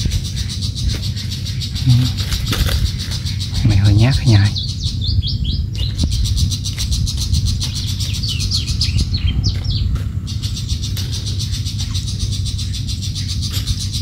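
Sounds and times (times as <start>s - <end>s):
songbird calling falling notes: 0.0s - 14.0s
steady low rumble: 0.0s - 14.0s.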